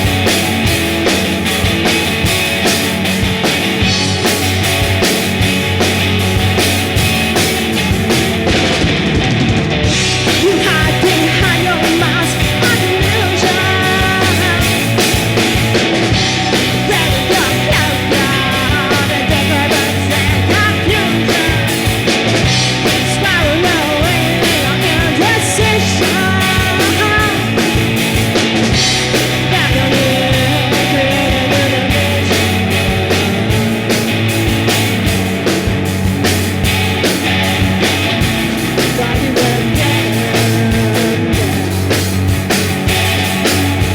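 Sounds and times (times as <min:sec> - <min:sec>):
rock band playing: 0:00.0 - 0:43.9
steady drum beat: 0:00.0 - 0:43.9.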